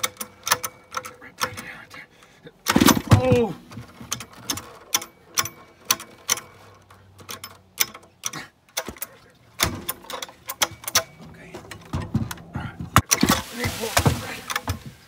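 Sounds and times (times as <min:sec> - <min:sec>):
engine pull-start clicks and rattles: 0:00.0 - 0:15.0.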